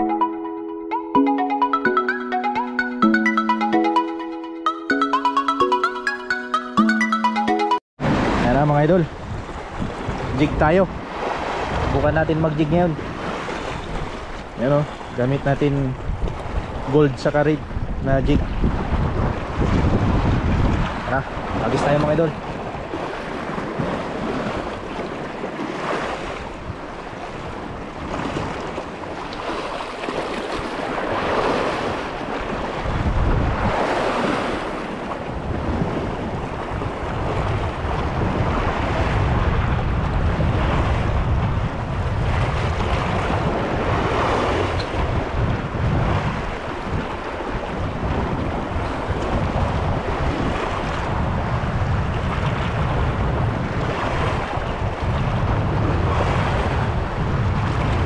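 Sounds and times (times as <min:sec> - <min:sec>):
choppy sea waves splashing: 0:00.0 - 0:58.0
wind buffeting microphone: 0:08.0 - 0:58.0.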